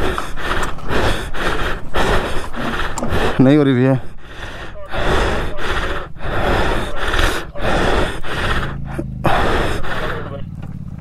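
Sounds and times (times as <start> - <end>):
heavy gasping breathing: 0.0 - 10.5.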